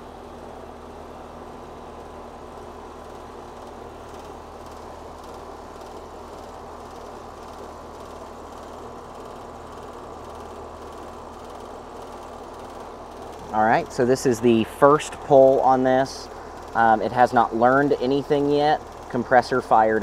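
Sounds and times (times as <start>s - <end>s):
compressor hum: 0.0s - 20.0s.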